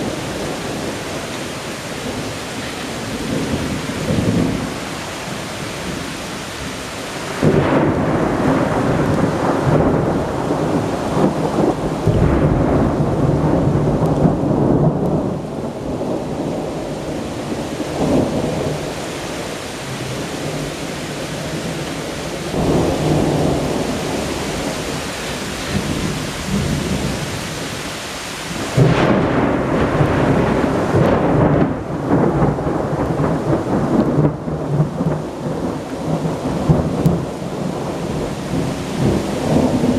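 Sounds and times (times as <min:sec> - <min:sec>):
rolling thunder: 0:00.0 - 0:27.9, 0:28.5 - 0:39.9
steady rain: 0:00.0 - 0:39.9.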